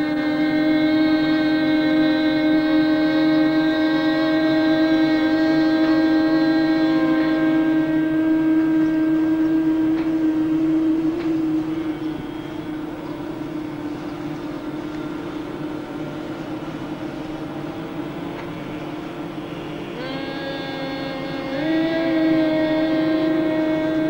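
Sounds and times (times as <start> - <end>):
group of people humming: 0.0 - 24.0.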